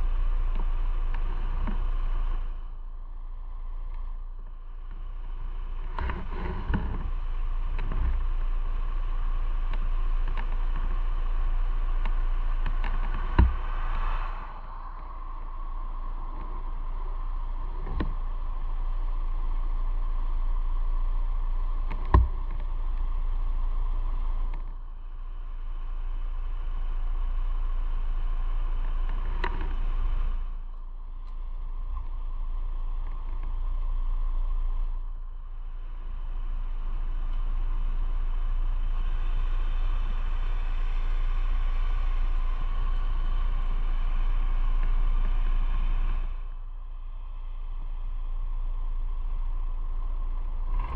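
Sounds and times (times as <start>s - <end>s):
motorcycle engine rumble: 0.0s - 50.9s.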